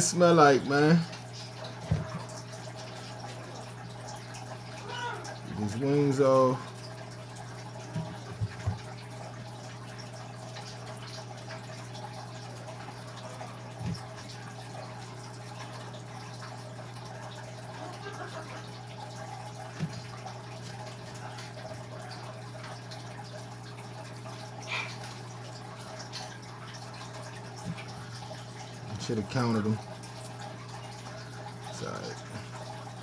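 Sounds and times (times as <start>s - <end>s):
wet drips and clicks in water: 0.0s - 33.0s.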